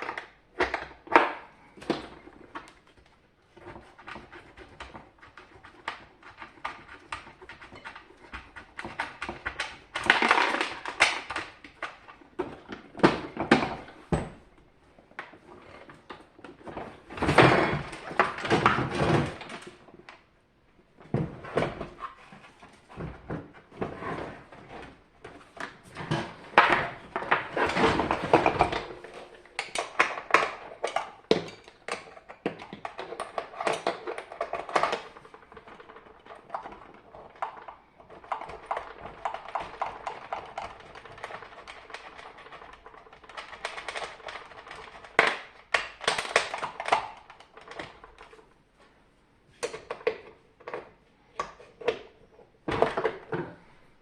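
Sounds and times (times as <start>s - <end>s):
plastic and metal parts clattering: 0.0s - 20.2s, 21.0s - 48.5s, 49.5s - 54.0s.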